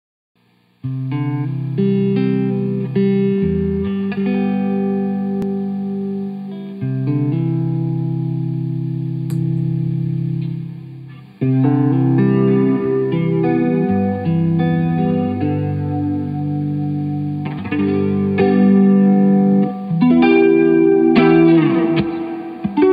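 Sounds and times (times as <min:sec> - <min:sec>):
electric guitar chords with chorus: 0:00.8 - 0:22.9.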